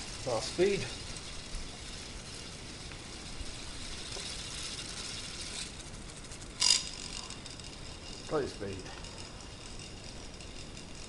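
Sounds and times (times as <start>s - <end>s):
toy gears whirring and clicking: 0.0s - 11.0s.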